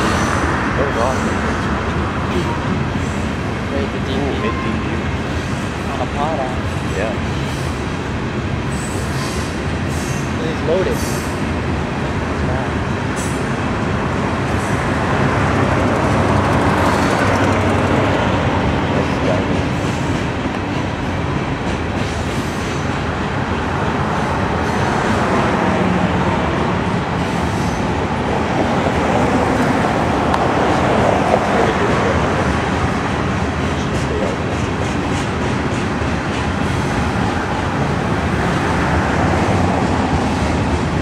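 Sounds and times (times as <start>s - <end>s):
freight train wheels rumbling: 0.0s - 41.0s
road vehicles passing: 0.0s - 41.0s.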